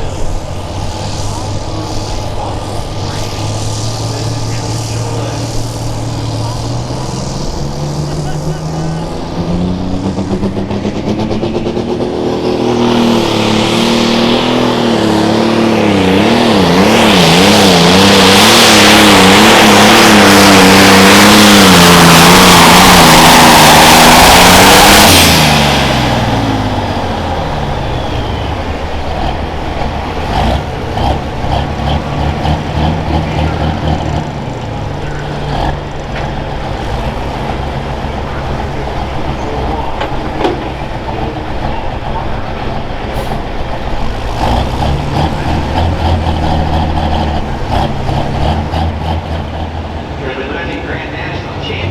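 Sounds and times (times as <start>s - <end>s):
tractor diesel engine revving: 0.0s - 51.9s.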